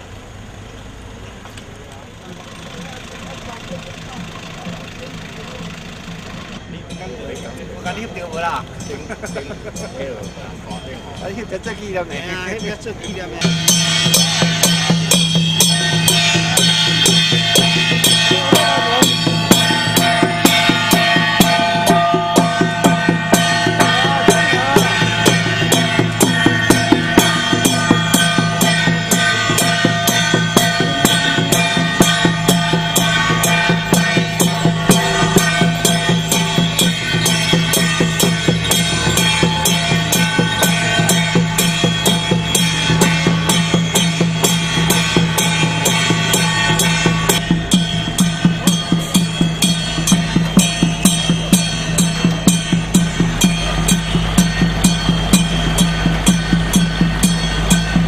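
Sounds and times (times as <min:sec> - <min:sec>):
drums beating: 0:02.3 - 0:58.0
sustained held melody: 0:02.4 - 0:58.0.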